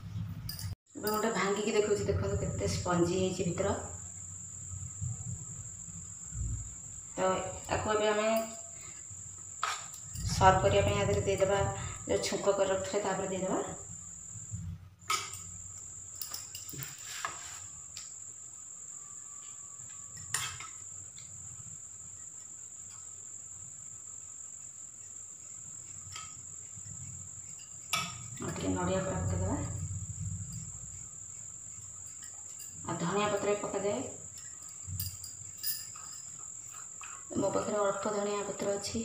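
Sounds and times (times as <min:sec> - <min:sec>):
cricket trilling: 0:01.0 - 0:39.0.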